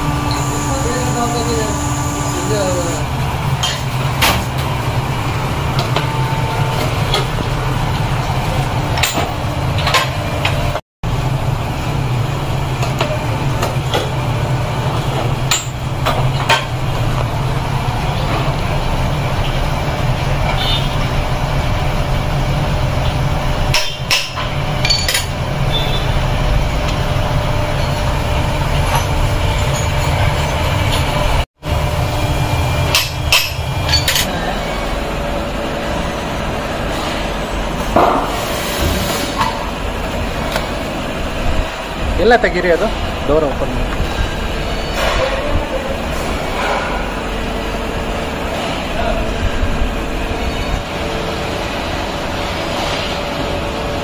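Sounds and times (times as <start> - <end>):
machine humming: 0.0 - 38.2, 39.6 - 54.0.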